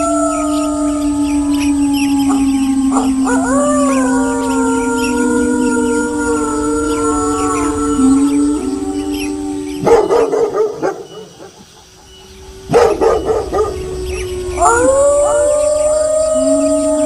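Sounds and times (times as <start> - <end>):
wolves howling: 0.0 - 17.0.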